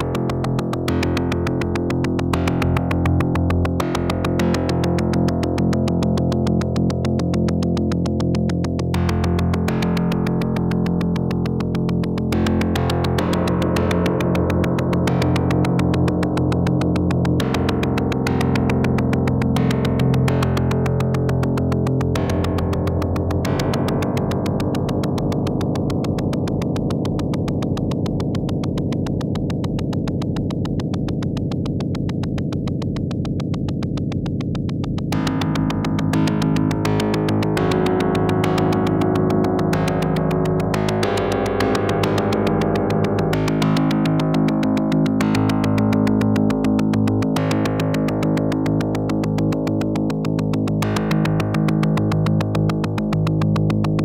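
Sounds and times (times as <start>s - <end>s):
plucked synth notes: 0.0s - 54.0s.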